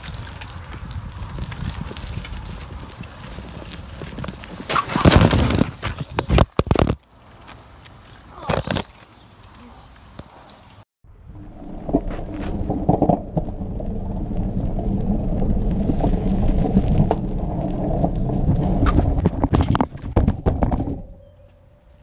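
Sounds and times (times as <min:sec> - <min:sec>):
wheels crunching over gravel: 0:00.0 - 0:10.0, 0:11.3 - 0:22.0.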